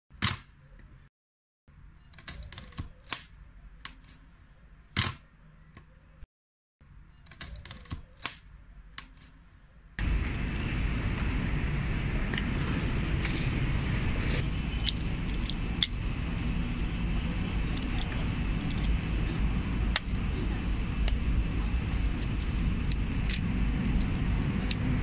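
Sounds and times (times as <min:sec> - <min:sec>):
street traffic hum: 0:01.7 - 0:06.2, 0:06.8 - 0:25.0.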